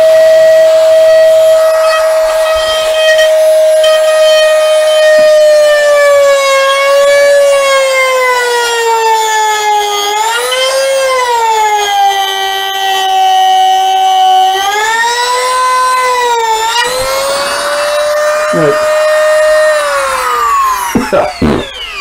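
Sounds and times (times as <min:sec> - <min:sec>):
rotary tool motor whining: 0:00.0 - 0:22.0.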